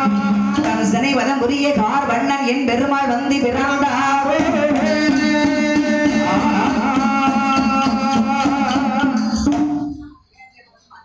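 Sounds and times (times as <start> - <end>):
voices singing: 0.0 - 2.0, 3.4 - 11.0
percussion strikes: 0.0 - 10.3.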